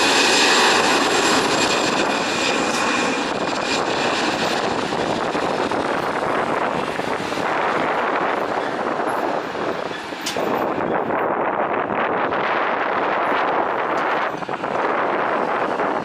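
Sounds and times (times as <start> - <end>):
jet engines rushing: 0.0 - 16.0
wind buffeting microphone: 0.0 - 16.0.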